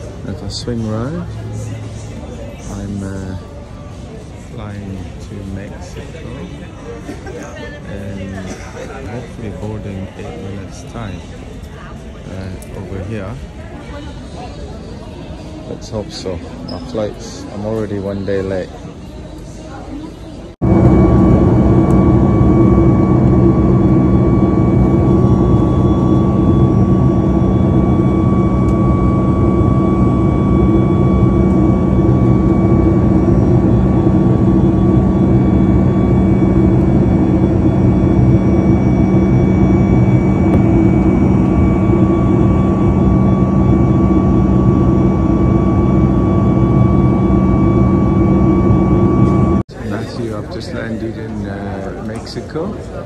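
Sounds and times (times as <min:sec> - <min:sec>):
jet engine rumble in cabin: 0:00.0 - 0:13.4, 0:20.6 - 0:52.6
high engine whine: 0:00.0 - 0:14.0, 0:20.3 - 0:52.9.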